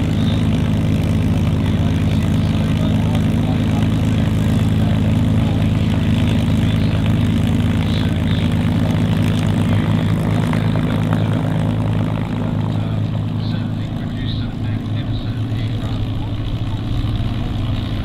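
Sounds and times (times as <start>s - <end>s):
propeller plane engine idling: 0.0s - 18.0s.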